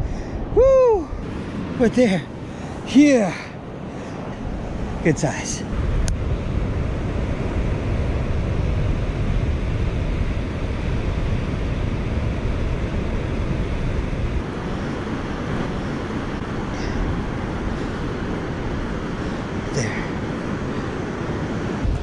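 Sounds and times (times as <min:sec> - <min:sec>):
surf washing: 0:00.0 - 0:22.0
wind buffeting microphone: 0:00.0 - 0:22.0.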